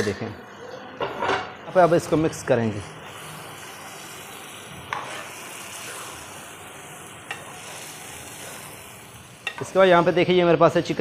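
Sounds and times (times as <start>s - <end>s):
food sizzling in a pot: 0.3s - 11.0s.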